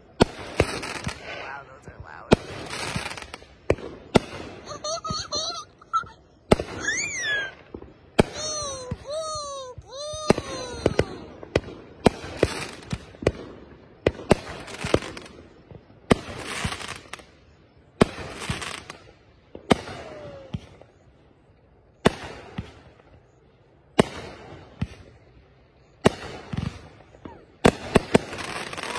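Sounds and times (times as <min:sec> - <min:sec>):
crackling hiss of fireworks: 0:00.0 - 0:28.9.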